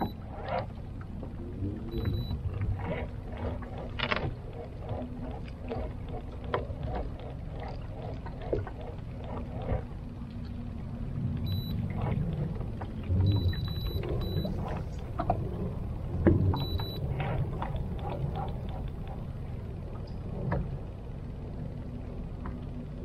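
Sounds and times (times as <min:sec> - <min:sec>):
boat low rumble: 0:00.0 - 0:23.0
faint steady hum: 0:00.0 - 0:23.0.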